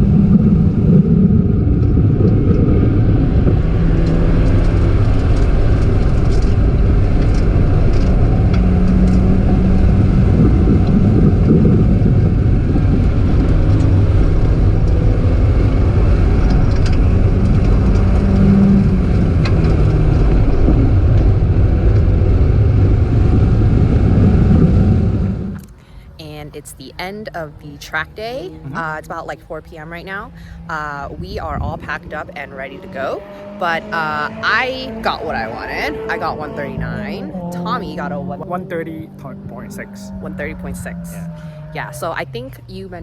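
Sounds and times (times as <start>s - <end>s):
car engine revving at speed: 0.0s - 25.8s, 26.5s - 43.0s
road and wind noise: 0.0s - 43.0s.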